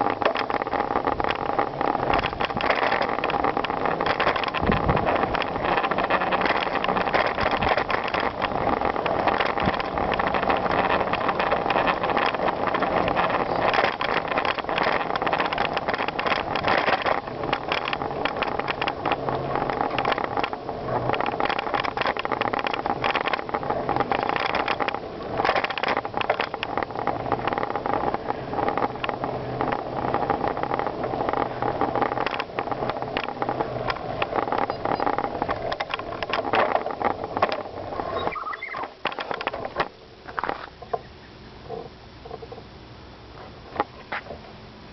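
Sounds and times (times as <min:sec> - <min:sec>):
bicycle tyres crunching on gravel: 0:00.0 - 0:40.9.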